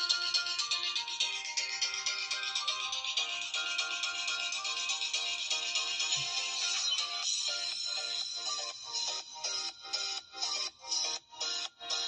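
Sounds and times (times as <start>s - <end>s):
background music with repeated notes: 0.0s - 12.0s.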